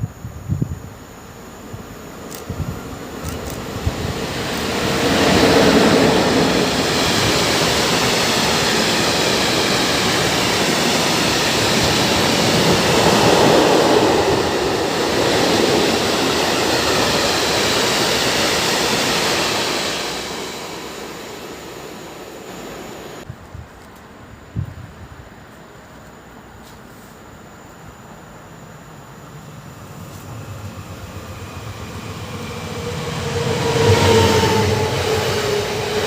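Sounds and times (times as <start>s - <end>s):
freight train wheels on rail: 0.0s - 27.2s, 29.6s - 36.0s.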